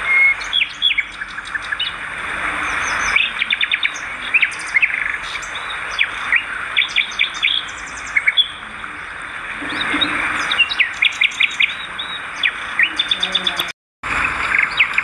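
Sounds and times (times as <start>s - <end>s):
swiftlets twittering: 0.0s - 15.0s.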